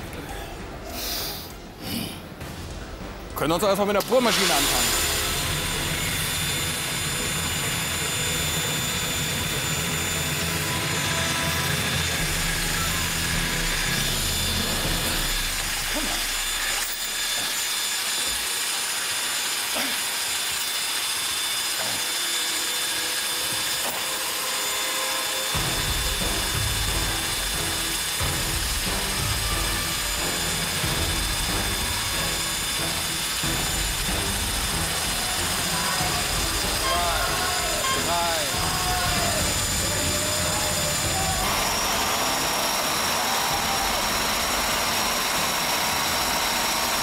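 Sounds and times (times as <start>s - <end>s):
demolition hammer running: 2.2s - 47.0s.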